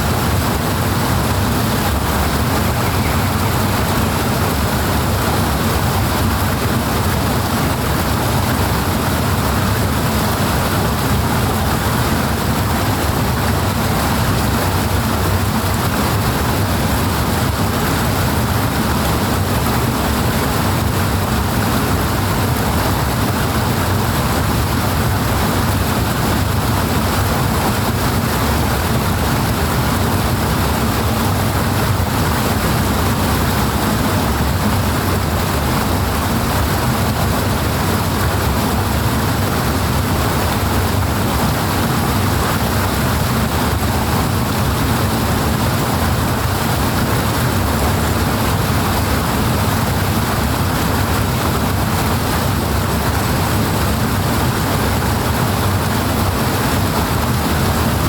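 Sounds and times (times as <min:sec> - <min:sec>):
powerful water rushing: 0:00.0 - 0:58.0.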